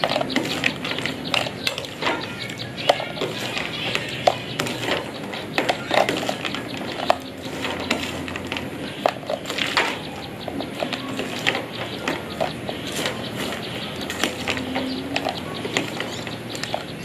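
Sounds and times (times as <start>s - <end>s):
crunching and chewing peanuts: 0.0s - 17.0s.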